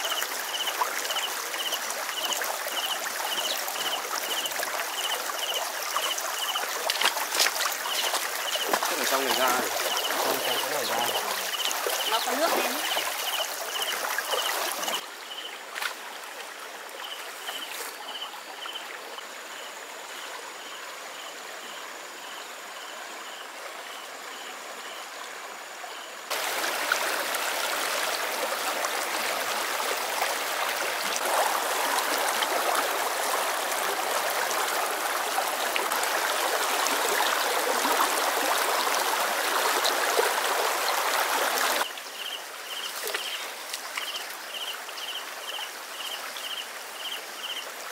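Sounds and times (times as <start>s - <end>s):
river water rushing: 0.0s - 21.1s, 26.3s - 45.9s
stream trickling over stones: 0.0s - 21.6s, 26.3s - 47.9s.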